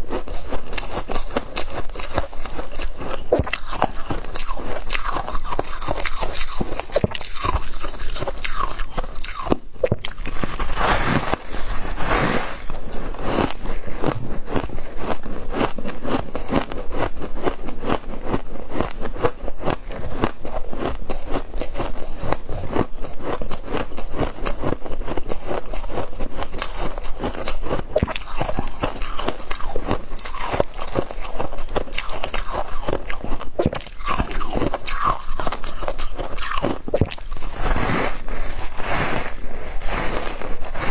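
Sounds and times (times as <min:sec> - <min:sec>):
crunching and chewing frost: 0:00.0 - 0:40.9.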